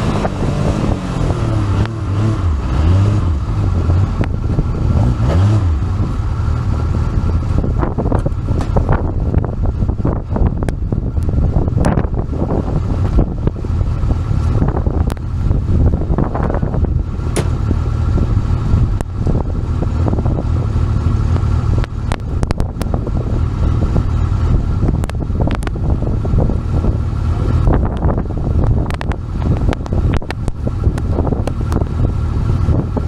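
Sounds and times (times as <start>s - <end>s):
off-road vehicle engine running: 0.0s - 33.0s
wind buffeting microphone: 0.0s - 33.0s.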